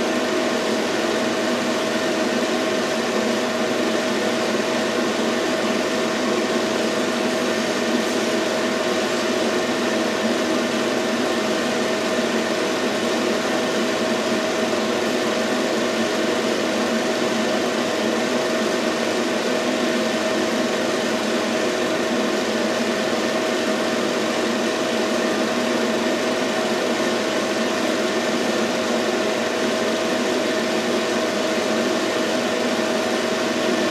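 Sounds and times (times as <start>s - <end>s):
film projector running: 0.0s - 33.9s.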